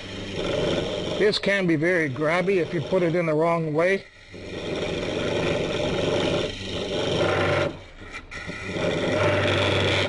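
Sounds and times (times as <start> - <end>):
lathe motor hum: 0.0 - 10.0
tool scraping wood on lathe: 0.0 - 10.0.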